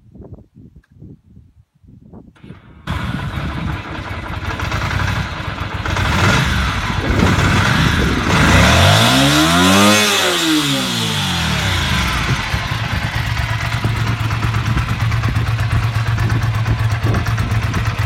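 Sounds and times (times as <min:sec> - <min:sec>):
engine running loudly: 0:02.9 - 0:18.0.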